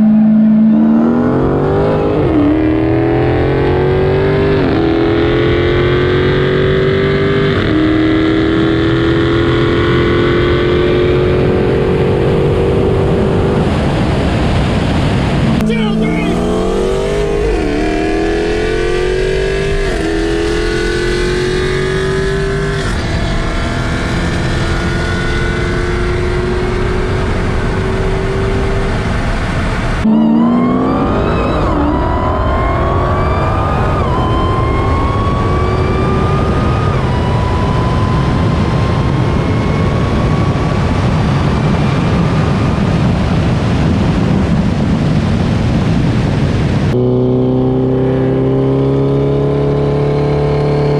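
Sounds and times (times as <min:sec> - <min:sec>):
car engine revving through upshifts: 0:00.0 - 0:13.9, 0:15.6 - 0:40.7, 0:46.9 - 0:50.9
wind and road noise: 0:00.0 - 0:50.9.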